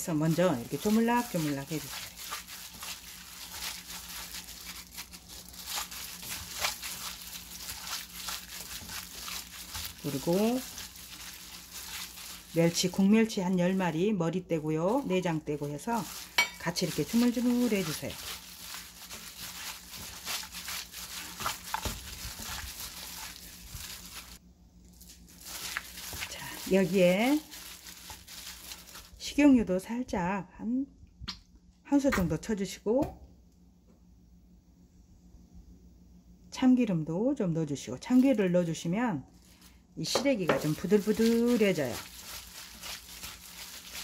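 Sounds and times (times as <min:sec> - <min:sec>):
gloved hand squishing wet greens: 0:00.0 - 0:29.4, 0:38.0 - 0:44.0
plastic glove crinkling: 0:00.0 - 0:29.7, 0:38.0 - 0:44.0.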